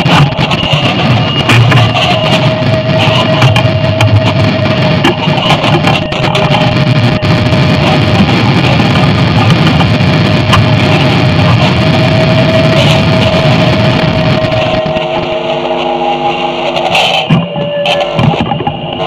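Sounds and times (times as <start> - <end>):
electronic noise drone: 0.0 - 19.0.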